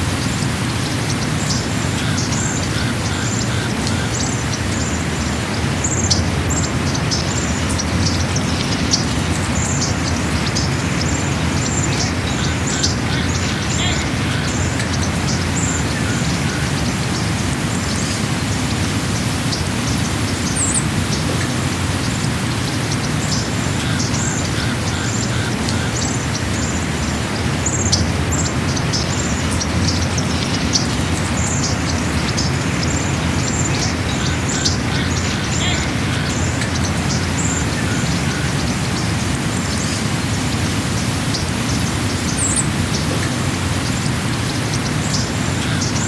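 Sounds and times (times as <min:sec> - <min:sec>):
steady low rushing noise: 0:00.0 - 0:46.0.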